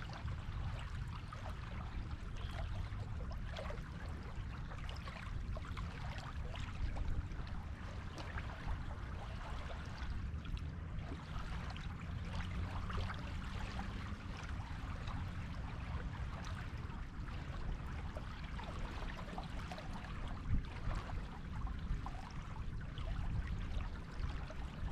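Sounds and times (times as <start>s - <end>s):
waves washing on a beach: 0.0s - 24.9s.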